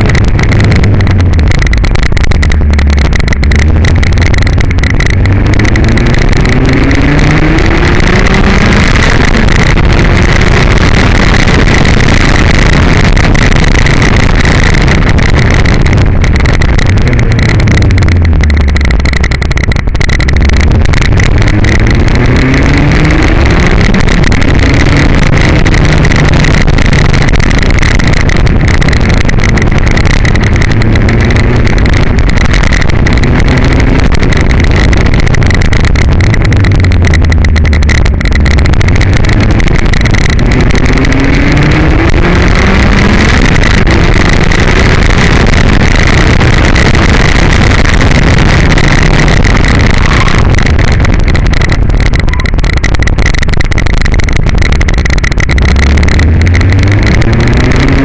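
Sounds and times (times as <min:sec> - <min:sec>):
car engine accelerating: 0:00.0 - 0:58.0
wind rushing on microphone: 0:00.0 - 0:58.0.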